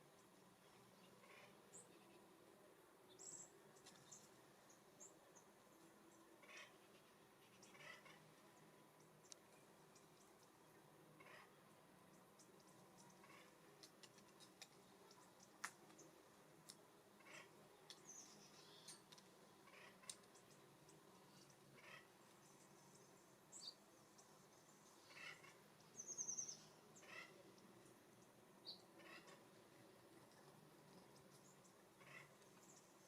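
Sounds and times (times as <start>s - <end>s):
small birds chirping: 3.1s - 33.0s.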